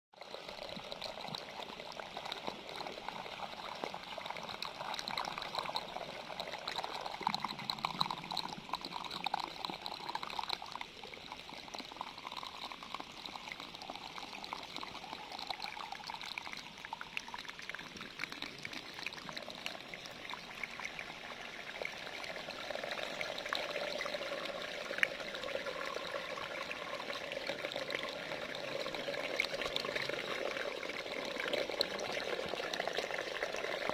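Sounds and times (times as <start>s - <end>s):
aquarium water bubbling: 0.2s - 33.9s.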